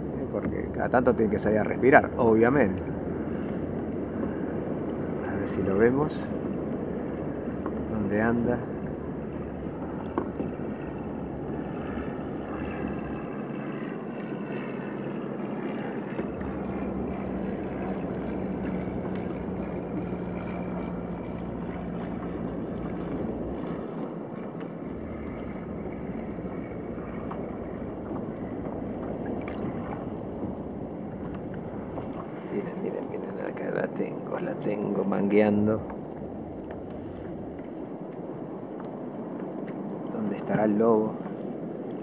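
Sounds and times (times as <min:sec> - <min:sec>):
faint steady hum: 0:00.0 - 0:42.0
small waves lapping at hull: 0:00.0 - 0:42.0
wind on the microphone: 0:00.0 - 0:42.0.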